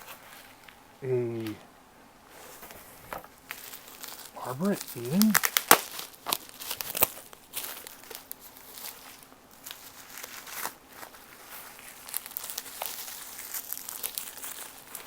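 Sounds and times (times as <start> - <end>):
packaging crinkling and rustling: 2.5 - 15.0.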